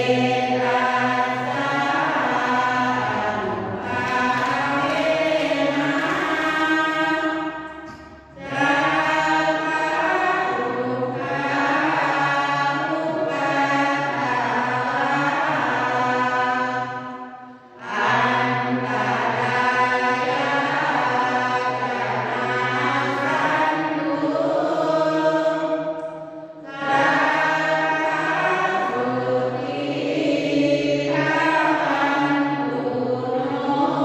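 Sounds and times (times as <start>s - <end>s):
group chanting prayers: 0.0s - 34.0s.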